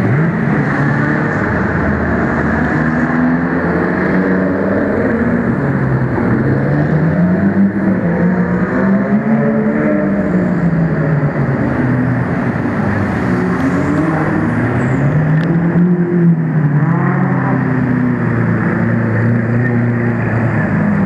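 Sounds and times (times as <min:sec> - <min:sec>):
sports car engines passing by: 0:00.0 - 0:21.0.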